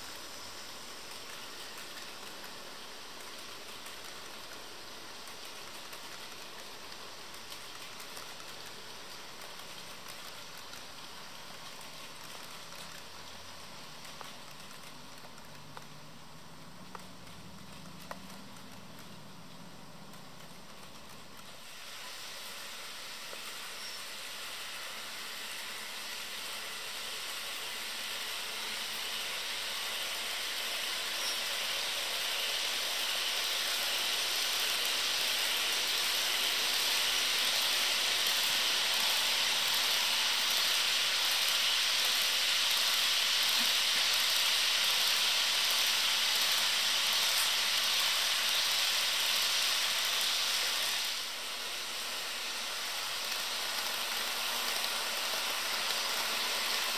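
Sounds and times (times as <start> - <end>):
model train wheels hissing: 0.0 - 56.9.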